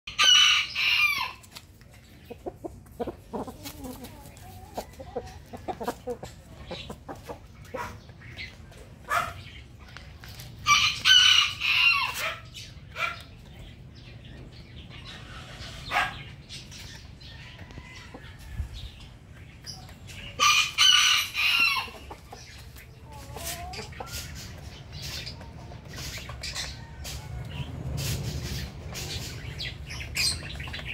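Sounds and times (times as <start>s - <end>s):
chicken calls: 0.1s - 13.6s, 14.4s - 30.9s.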